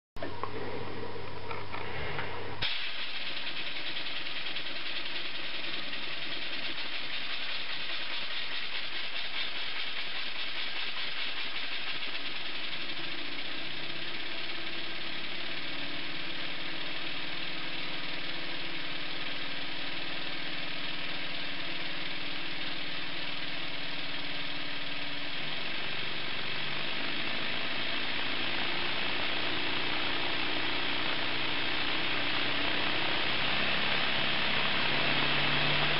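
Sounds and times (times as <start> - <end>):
hissing exhaust: 0.2 - 35.9
small steam engine running: 0.2 - 35.9.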